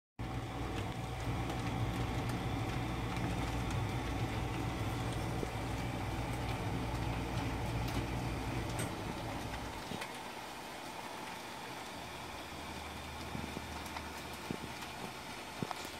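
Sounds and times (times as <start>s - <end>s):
electric blower fan humming: 0.2s - 15.9s.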